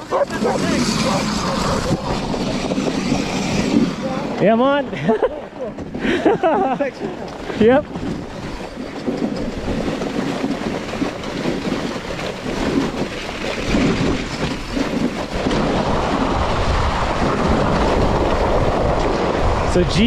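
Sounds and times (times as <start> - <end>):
sled runners scraping over snow: 0.0 - 20.0.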